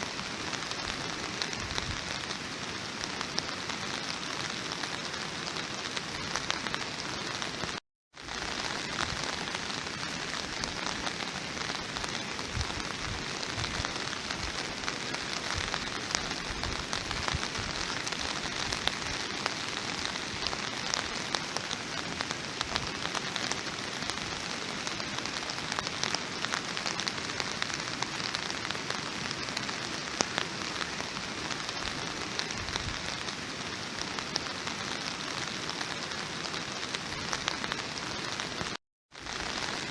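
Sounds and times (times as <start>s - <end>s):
raindrops pattering on a surface: 0.0s - 39.9s
steady rain falling: 0.0s - 39.9s.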